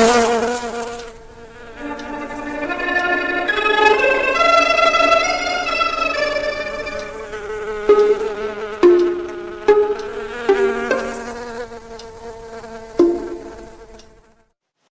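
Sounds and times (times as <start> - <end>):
cartoon insect buzzing: 0.0 - 14.3.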